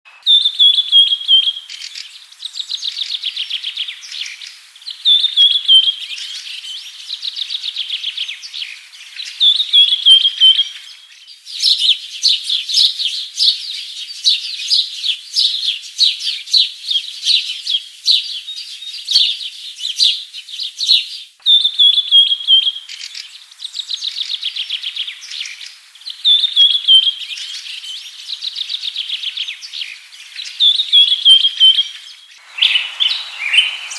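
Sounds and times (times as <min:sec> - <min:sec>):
bird singing: 0:00.1 - 0:33.9.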